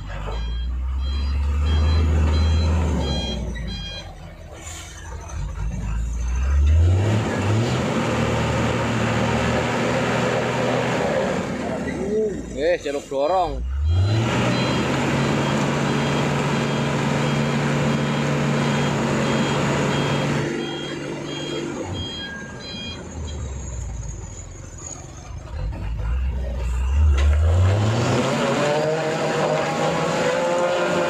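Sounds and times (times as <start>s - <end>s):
diesel truck engine labouring: 0.0s - 31.0s.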